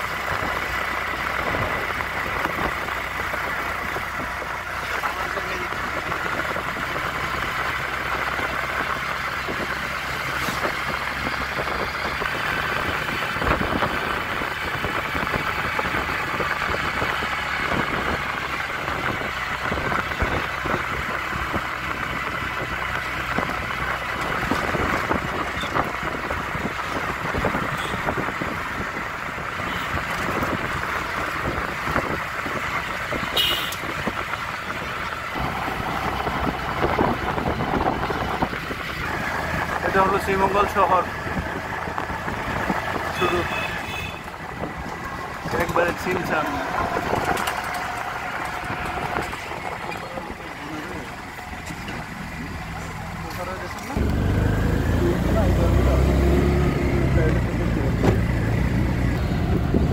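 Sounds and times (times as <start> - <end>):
road and wind noise: 0.0 - 59.9.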